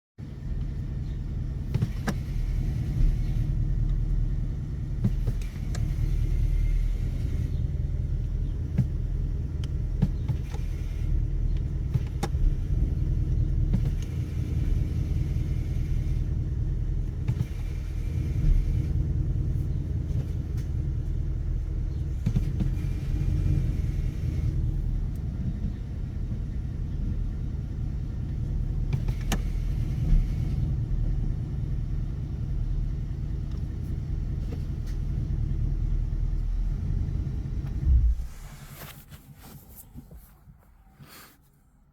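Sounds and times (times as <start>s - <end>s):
car driving rumble: 0.2s - 41.9s.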